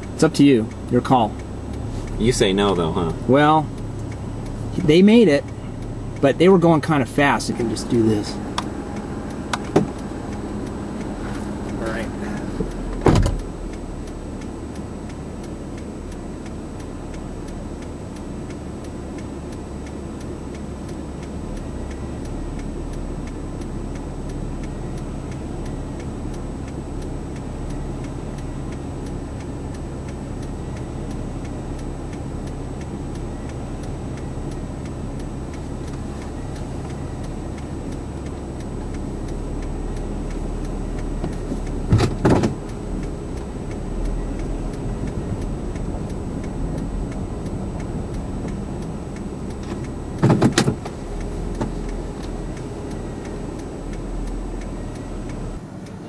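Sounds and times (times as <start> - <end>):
car engine rumble from inside: 0.0 - 56.0
faint regular ticking: 0.0 - 56.0.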